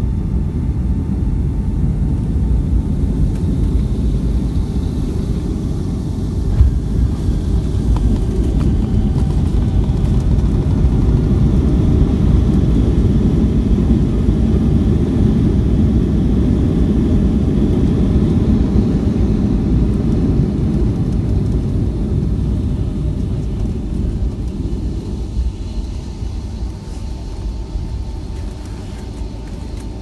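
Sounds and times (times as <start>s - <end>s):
airliner rumbling on runway: 0.0s - 30.0s.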